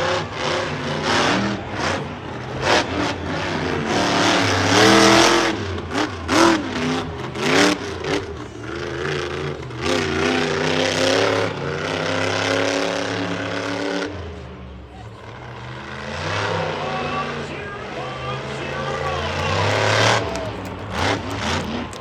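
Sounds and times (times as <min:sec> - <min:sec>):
monster truck engine revving: 0:00.0 - 0:14.5, 0:18.3 - 0:22.0.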